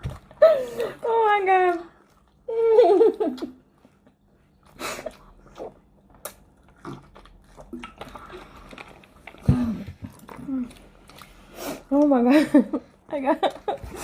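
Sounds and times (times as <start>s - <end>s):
people chewing crunchy food: 0.0s - 14.0s.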